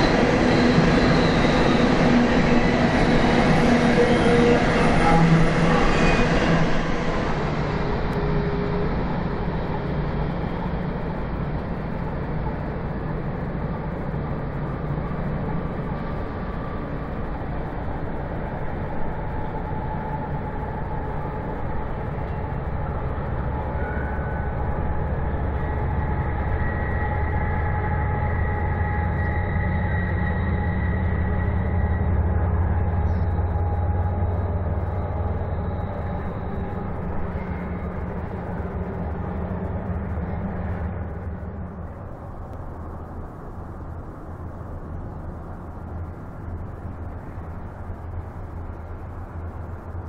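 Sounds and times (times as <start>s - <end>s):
freight train rumbling past: 0.0s - 50.0s
low engine drone: 0.0s - 50.0s.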